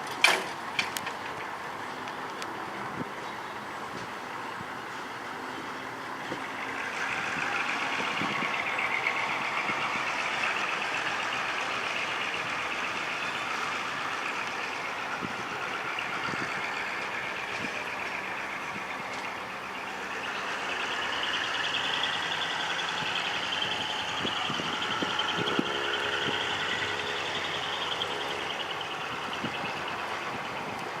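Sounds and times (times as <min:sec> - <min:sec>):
diesel locomotive engine: 0:00.0 - 0:31.0.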